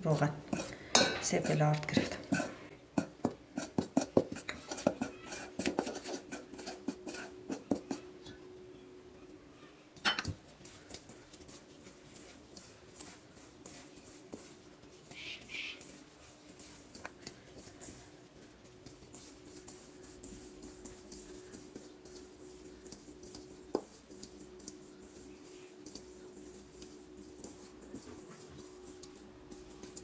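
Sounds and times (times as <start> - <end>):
hands rubbing flour in bowl: 0.0 - 8.1, 10.3 - 30.0
faint steady hum: 5.9 - 30.0.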